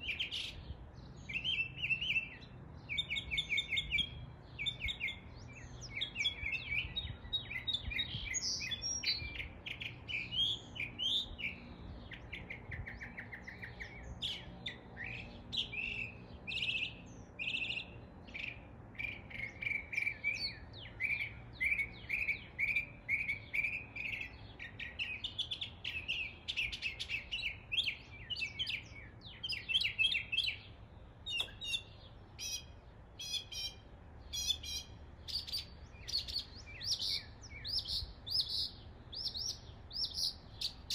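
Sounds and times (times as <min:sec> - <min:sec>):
mockingbird singing: 0:00.0 - 0:40.9.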